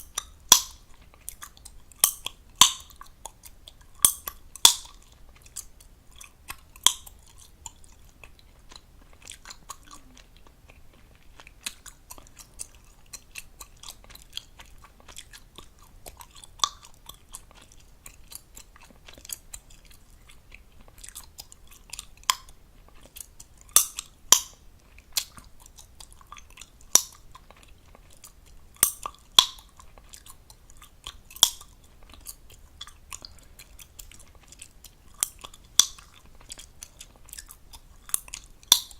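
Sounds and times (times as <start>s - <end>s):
gum popping: 0.0s - 38.9s
wet gum chewing smacks: 0.0s - 38.9s.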